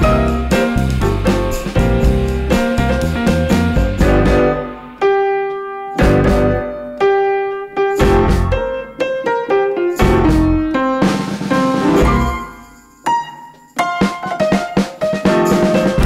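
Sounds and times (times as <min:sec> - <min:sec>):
piano chords and notes: 0:00.0 - 0:16.0.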